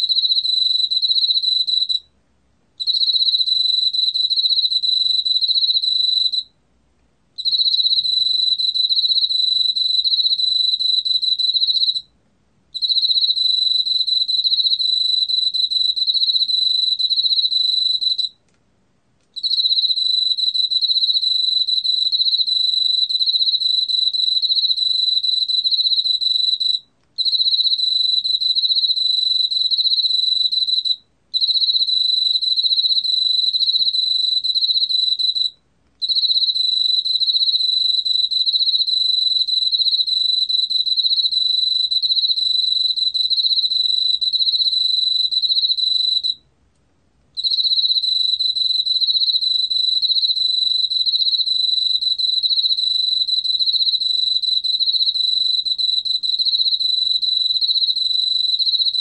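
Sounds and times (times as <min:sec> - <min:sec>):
cricket trilling: 0:00.0 - 0:02.0, 0:07.4 - 0:12.0, 0:12.8 - 0:18.4, 0:19.4 - 0:46.4, 0:47.4 - 0:59.0.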